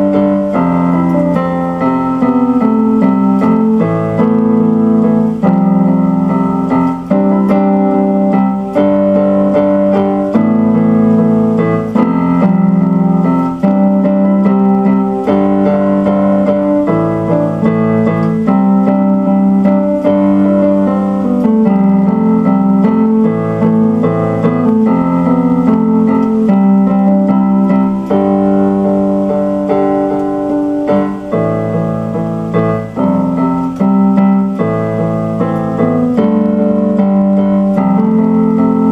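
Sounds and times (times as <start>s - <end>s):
electric piano music: 0.0s - 38.9s.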